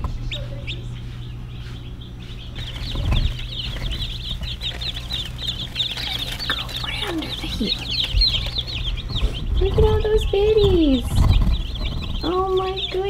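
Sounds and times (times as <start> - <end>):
chicks peeping: 0.0 - 13.0
steady low hum: 0.0 - 13.0.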